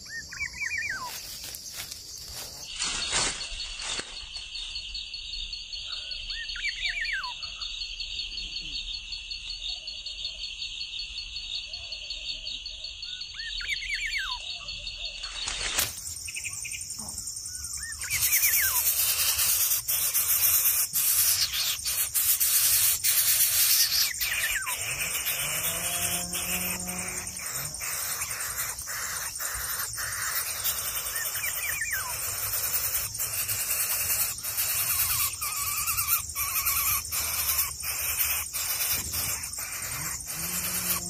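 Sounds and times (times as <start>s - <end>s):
bird chirps: 0.0s - 41.0s
insect trill: 0.0s - 41.0s.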